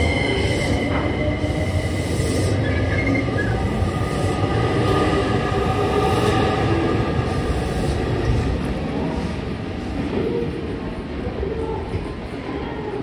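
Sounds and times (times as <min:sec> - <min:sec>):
thin train whine: 0:00.0 - 0:12.4
train wheels rumbling on rail: 0:00.0 - 0:13.0.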